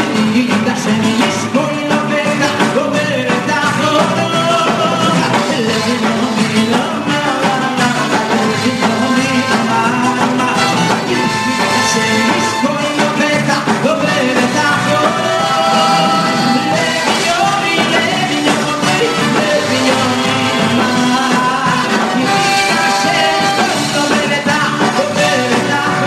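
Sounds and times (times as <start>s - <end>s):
live band playing: 0.0s - 26.0s
person singing: 0.0s - 26.0s.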